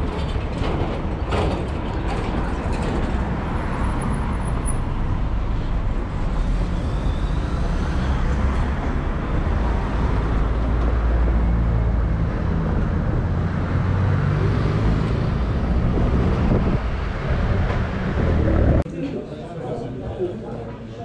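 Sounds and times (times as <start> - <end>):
cars passing: 0.0 - 18.8.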